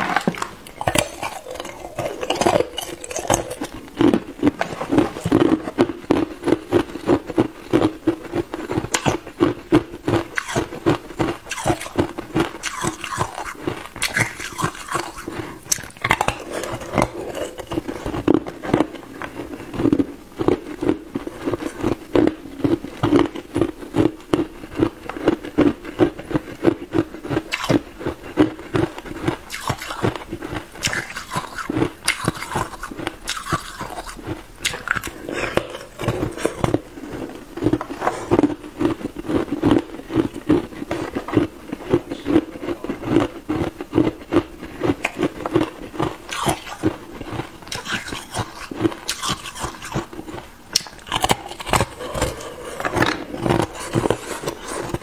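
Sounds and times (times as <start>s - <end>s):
ice cubes crunching in mouth: 0.0s - 55.0s.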